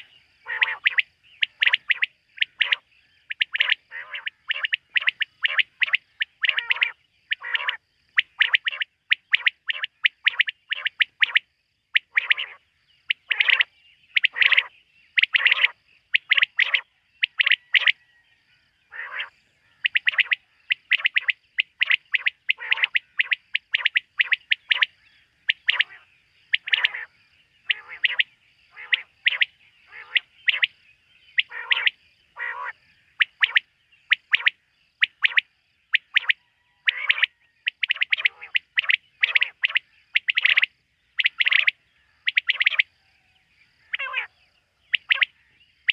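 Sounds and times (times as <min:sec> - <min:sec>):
quail calling: 0:00.0 - 0:18.2, 0:18.9 - 0:43.0, 0:43.8 - 0:44.3, 0:44.9 - 0:45.9.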